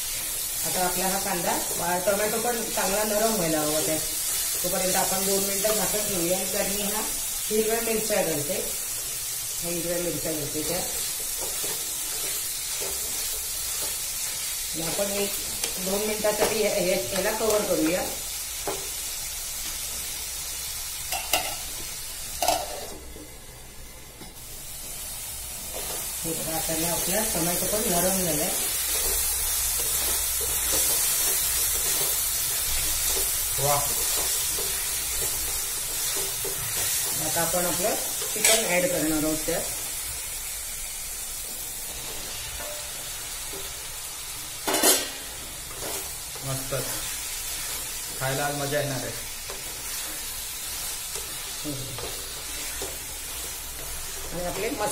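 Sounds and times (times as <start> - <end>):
masala sizzling in a pan: 0.0 - 54.9.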